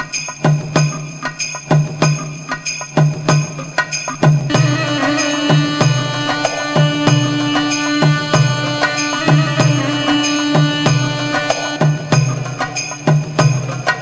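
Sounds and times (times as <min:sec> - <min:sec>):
instrumental soundtrack music: 0:00.0 - 0:14.0.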